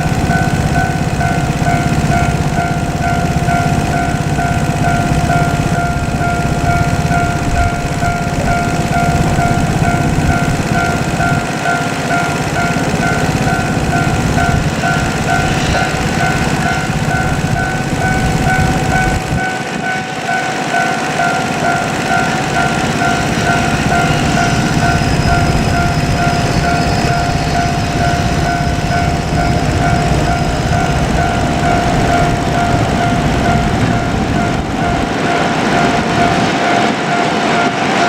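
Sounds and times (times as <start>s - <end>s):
crossing bell two-tone chime: 0.0s - 38.0s
freight train rumbling past: 0.0s - 38.0s.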